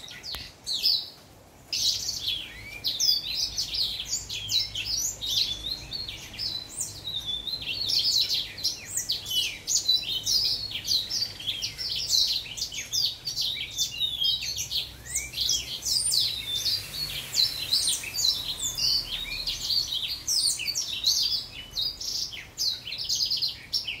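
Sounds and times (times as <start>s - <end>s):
finch singing warble: 0.0s - 24.0s.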